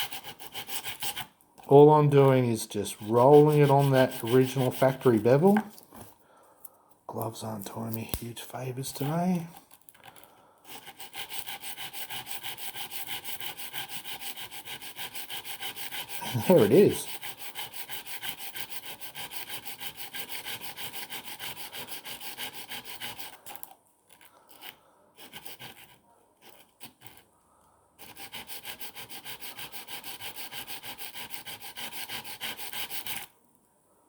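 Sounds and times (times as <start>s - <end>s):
blade scraping on sandpaper: 0.0s - 1.3s, 2.2s - 5.7s, 7.8s - 9.5s, 10.7s - 27.2s, 28.0s - 33.3s.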